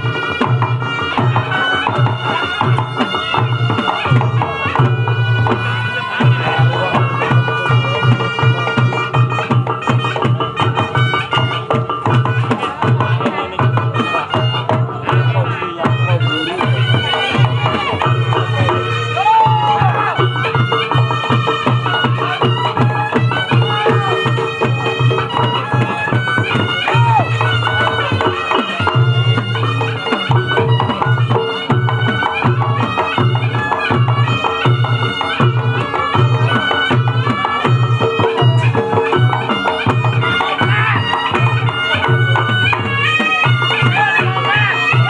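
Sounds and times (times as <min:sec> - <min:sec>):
drums in a fast rhythm: 0:00.0 - 0:45.0.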